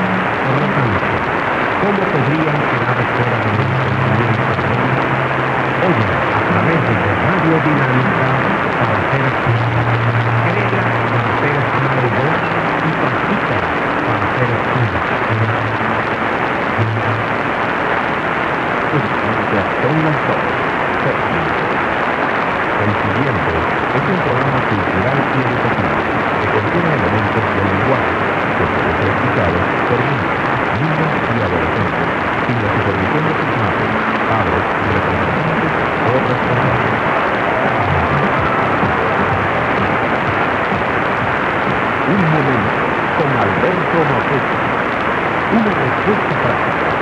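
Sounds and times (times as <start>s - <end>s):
faint voice on radio: 0.0s - 17.6s, 18.8s - 22.1s, 22.8s - 47.0s
radio static hiss: 0.0s - 47.0s.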